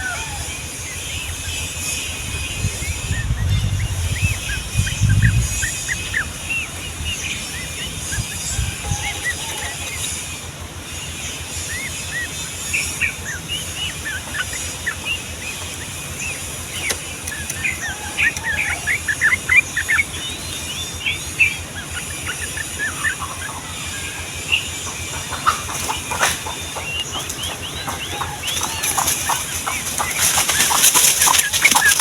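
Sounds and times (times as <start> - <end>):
bulbul singing: 0.0 - 32.0.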